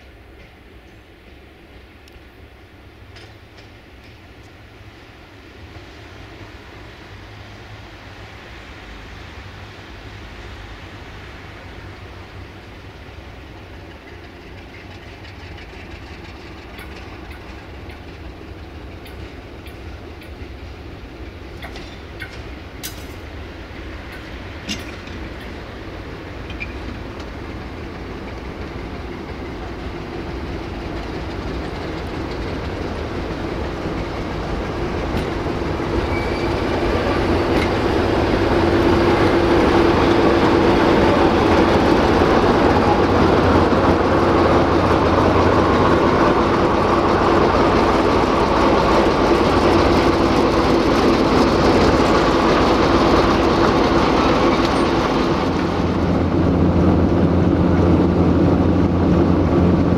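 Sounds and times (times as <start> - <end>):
train wheels clacking over rails: 0.0 - 5.0, 8.8 - 59.9
locomotive engine hum: 0.0 - 59.9.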